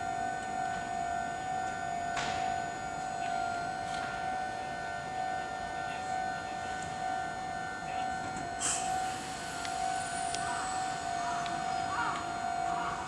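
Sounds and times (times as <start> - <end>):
low electronic warning tone: 0.0 - 13.0
pulsing higher tone: 0.0 - 13.0.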